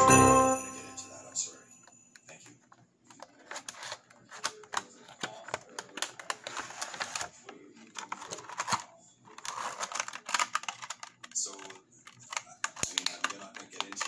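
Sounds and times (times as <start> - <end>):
packaging clicks and crackles: 2.2 - 14.0.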